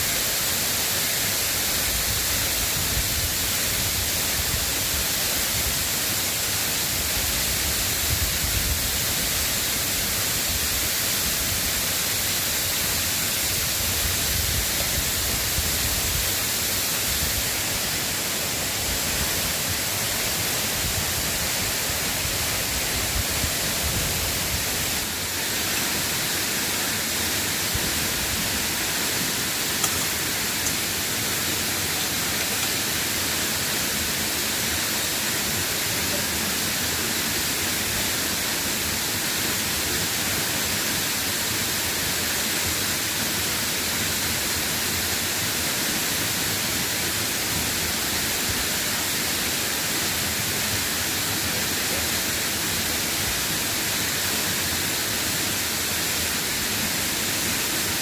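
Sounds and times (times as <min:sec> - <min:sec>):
drizzling rain hiss: 0:00.0 - 0:58.0.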